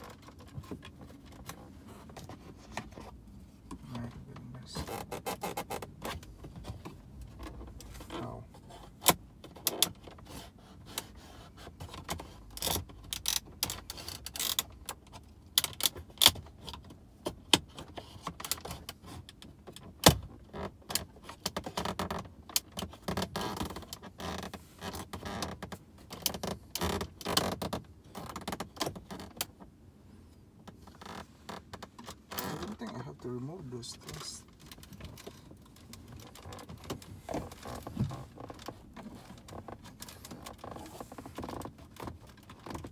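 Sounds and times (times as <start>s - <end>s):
hand tools on plastic trim: 0.0s - 29.7s, 30.6s - 42.9s.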